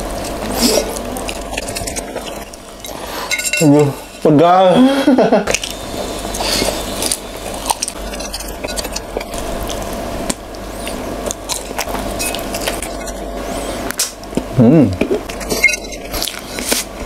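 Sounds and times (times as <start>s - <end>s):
person chewing wetly: 0.0s - 4.3s, 5.5s - 17.0s.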